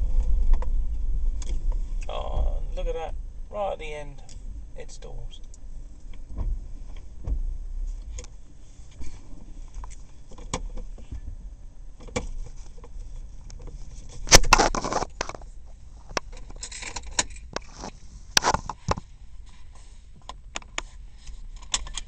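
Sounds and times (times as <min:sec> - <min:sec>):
car engine idling: 0:00.0 - 0:21.6.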